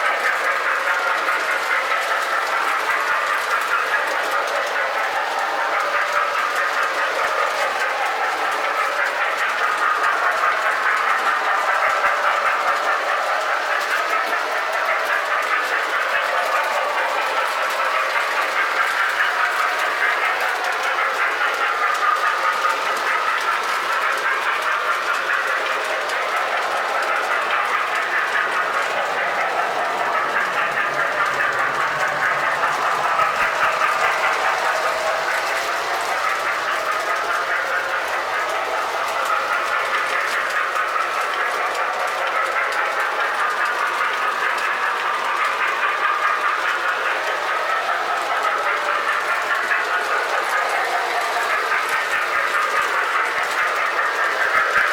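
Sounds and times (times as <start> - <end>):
toy train motor whir: 0.0 - 54.9
wheels clicking over rail joints: 0.0 - 54.9.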